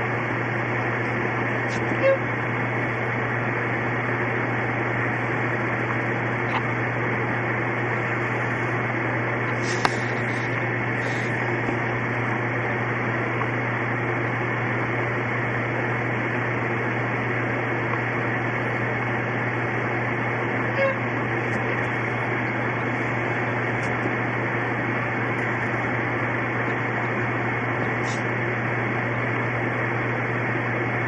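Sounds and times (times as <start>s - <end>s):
low hum with hiss: 0.0s - 31.0s.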